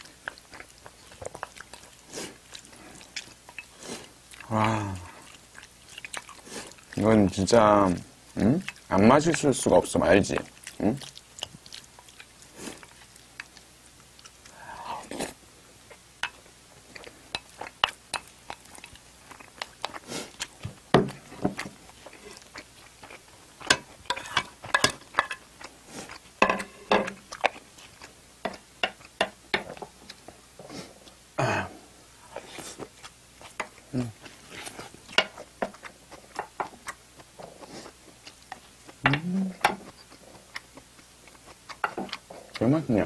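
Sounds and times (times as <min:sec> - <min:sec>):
person chewing wet smacks: 0:00.0 - 0:30.4, 0:32.3 - 0:43.0.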